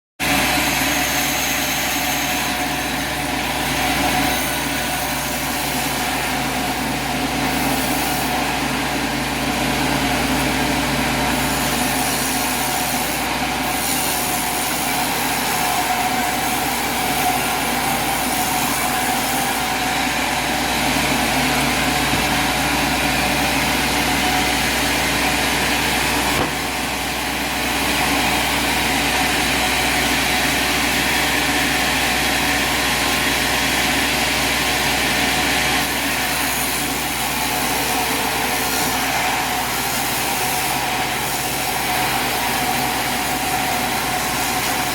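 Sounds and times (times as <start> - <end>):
sawmill engine droning: 0.2 - 44.9.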